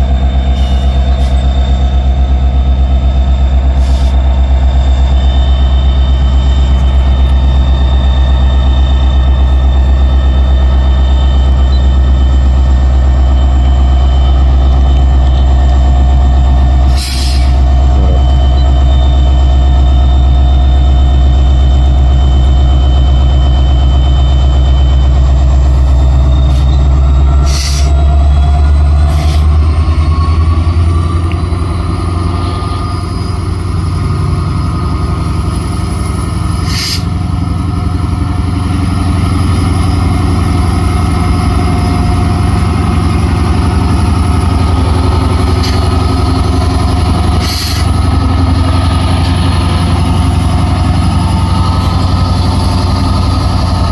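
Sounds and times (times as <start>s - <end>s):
diesel locomotive rumbling: 0.0s - 53.9s
locomotive engine whine: 0.0s - 53.9s.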